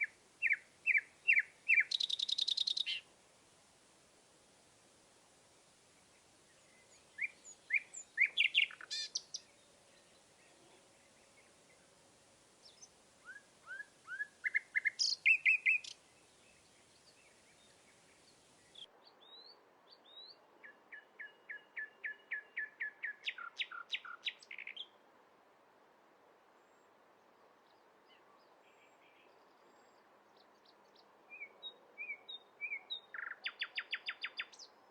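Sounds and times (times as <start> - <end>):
songbirds singing: 0.0 - 3.2, 5.6 - 25.0, 26.7 - 34.9.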